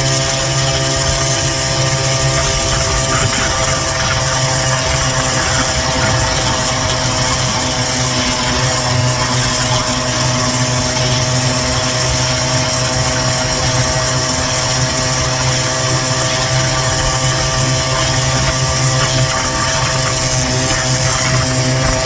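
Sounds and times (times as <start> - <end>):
scooter engine droning: 0.0 - 22.0.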